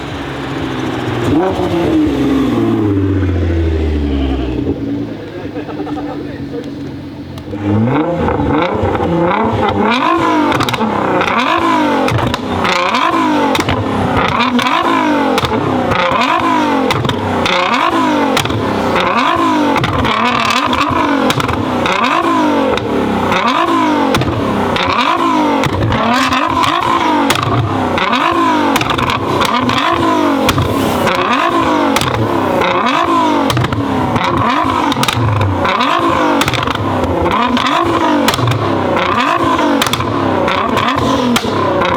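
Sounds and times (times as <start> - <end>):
car engine revving: 0.0 - 41.9
exhaust pops and bangs: 4.5 - 41.9.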